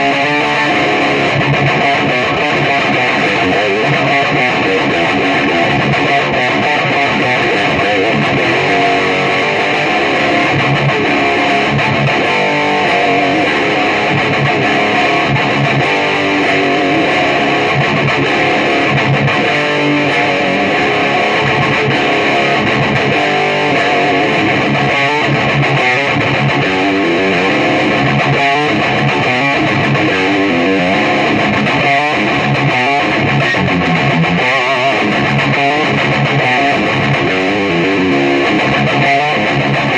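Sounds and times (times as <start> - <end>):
electric guitar through amp: 0.0 - 39.9.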